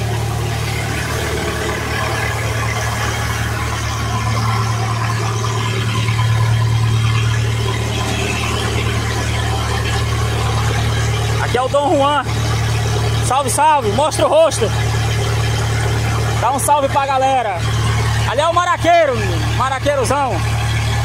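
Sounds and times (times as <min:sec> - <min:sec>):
engine humming steadily: 0:00.0 - 0:21.0.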